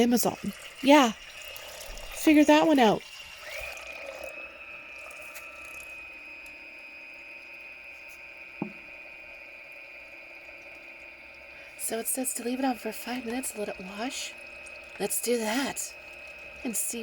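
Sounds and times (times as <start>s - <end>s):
washing machine motor whine: 0.0s - 17.0s.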